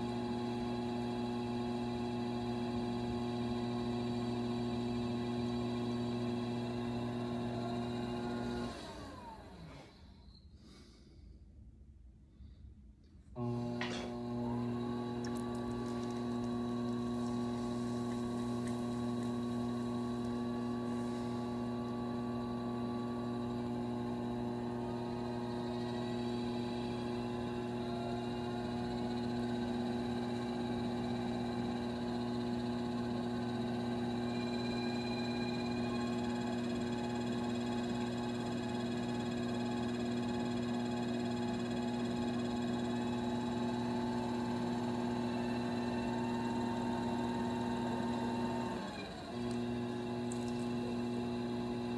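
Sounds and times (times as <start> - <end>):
potter's wheel motor humming: 0.0 - 9.8, 13.4 - 51.9.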